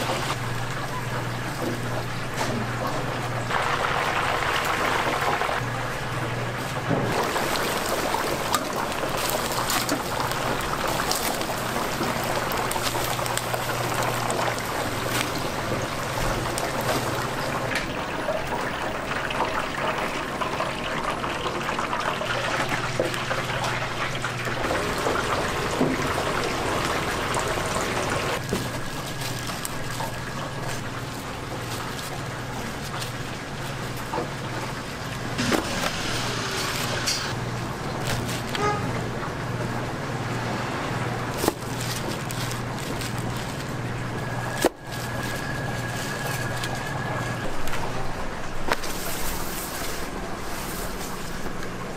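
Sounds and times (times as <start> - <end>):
oil bubbling and sizzling: 0.0 - 51.9.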